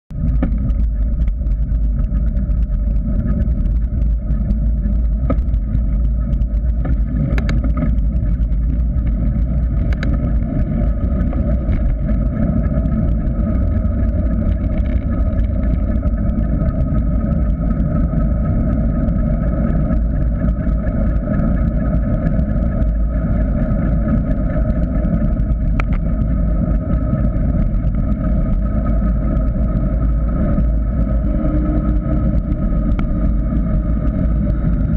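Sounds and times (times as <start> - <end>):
tyres humming on asphalt: 0.1 - 34.9
wind buffeting microphone: 0.2 - 34.9.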